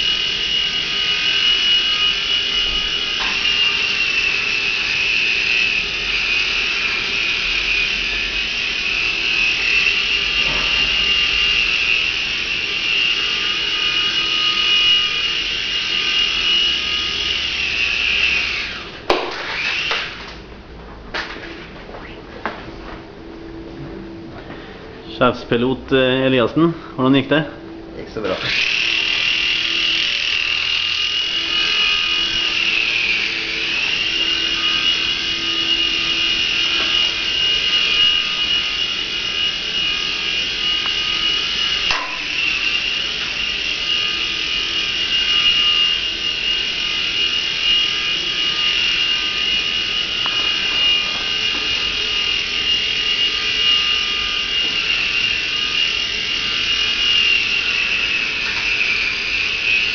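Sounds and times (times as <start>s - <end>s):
model helicopter motor whining: 0.0s - 20.3s, 28.3s - 59.9s.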